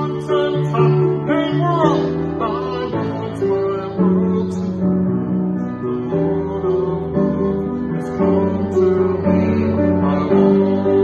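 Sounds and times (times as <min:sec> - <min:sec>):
instrumental accompaniment: 0:00.0 - 0:11.0
man singing into a microphone: 0:00.0 - 0:11.0.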